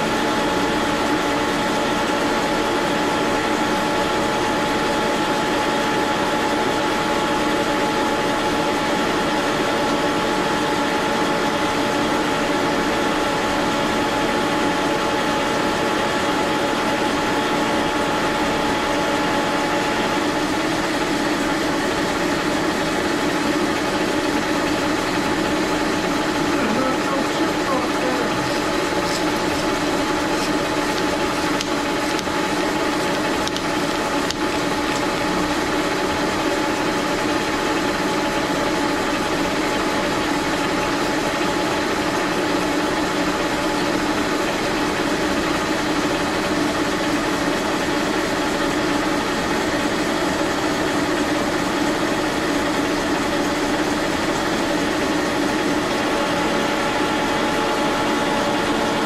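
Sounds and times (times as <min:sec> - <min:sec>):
machine tool droning with whine: 0:00.0 - 0:52.0, 0:52.7 - 0:59.0.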